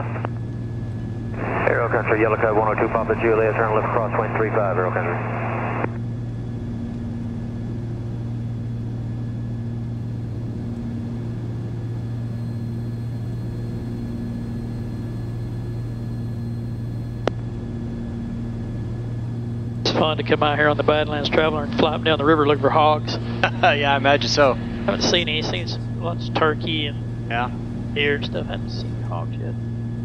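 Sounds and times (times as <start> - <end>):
aircraft engines droning in cabin: 0.0 - 30.0.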